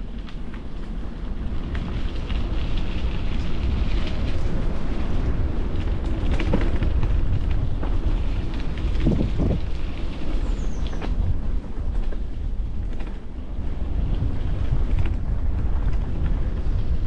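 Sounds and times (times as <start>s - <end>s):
bicycle tyres rumbling: 0.0s - 17.0s
wind on microphone: 0.0s - 17.0s.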